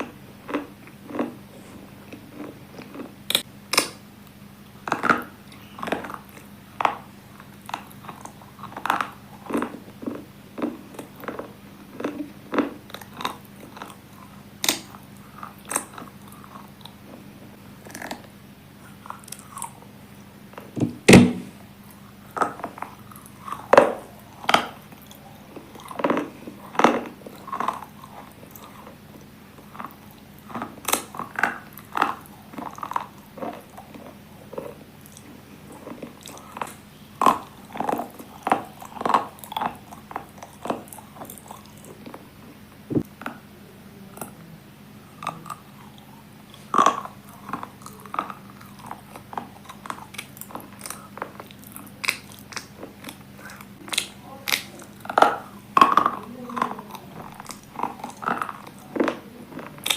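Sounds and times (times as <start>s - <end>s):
person chewing crunchy pieces: 0.0s - 59.9s.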